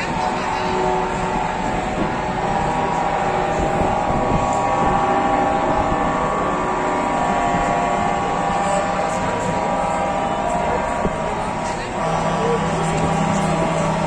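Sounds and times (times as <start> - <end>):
lorry engines droning: 0.0 - 14.0.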